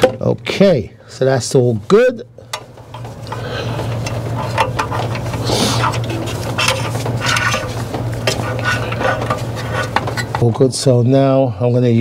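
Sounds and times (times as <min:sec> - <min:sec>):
low hum with hiss: 0:00.0 - 0:12.0.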